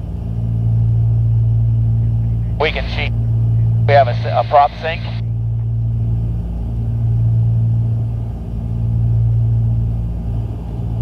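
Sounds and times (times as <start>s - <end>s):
aircraft engines droning: 0.0s - 11.0s.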